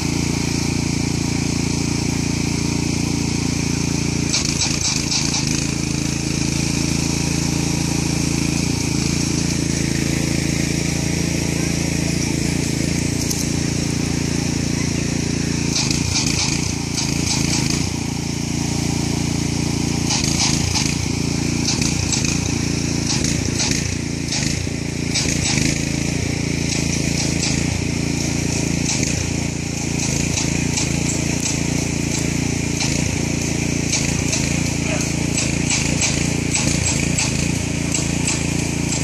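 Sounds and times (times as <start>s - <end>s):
small engine running steadily: 0.0s - 39.0s
high hissing and ticking: 3.8s - 26.1s, 26.7s - 39.0s.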